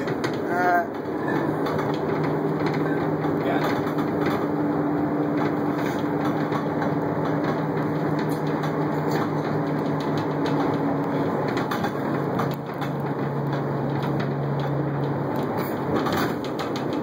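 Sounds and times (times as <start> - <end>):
cargo rattles and knocks: 0.0 - 17.0
truck engine and road drone: 0.0 - 17.0.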